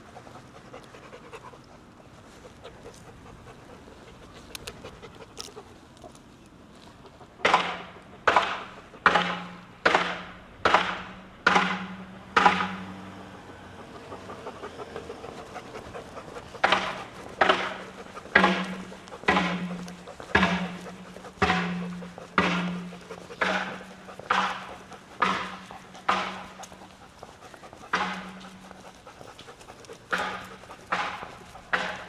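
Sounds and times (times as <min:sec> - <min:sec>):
dog panting heavily: 0:00.0 - 0:32.0.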